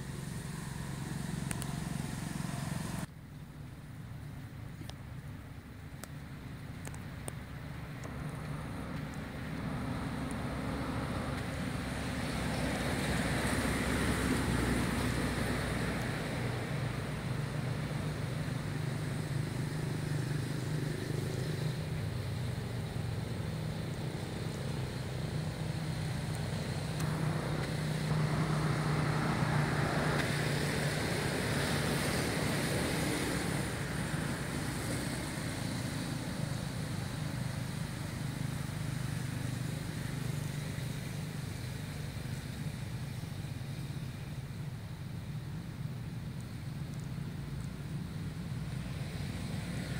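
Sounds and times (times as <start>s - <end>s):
traffic engine hum: 0.0s - 49.9s.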